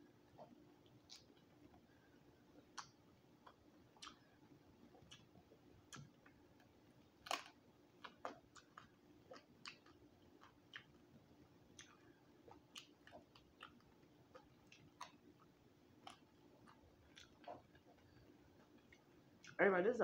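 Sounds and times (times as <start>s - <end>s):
person chewing crispy food: 0.0s - 19.6s.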